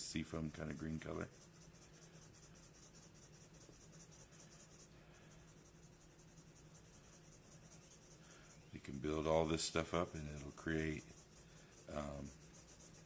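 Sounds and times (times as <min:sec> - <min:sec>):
marker scratching on paper: 0:00.0 - 0:13.0.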